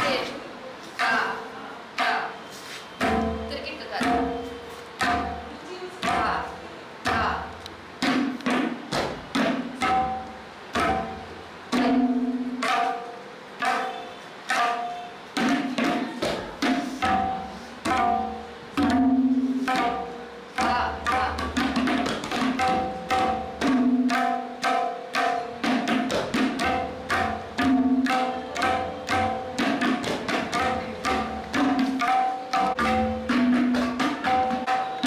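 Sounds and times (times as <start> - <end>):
tabla playing: 1.0 - 35.0.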